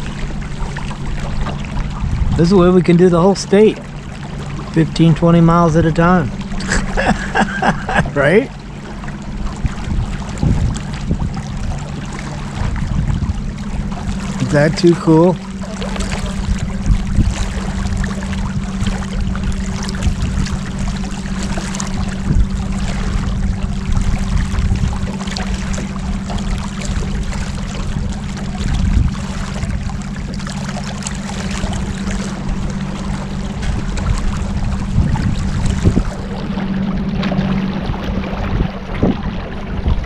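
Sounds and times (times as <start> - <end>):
motorboat engine humming: 0.0 - 40.0
water rushing along hull: 0.0 - 40.0.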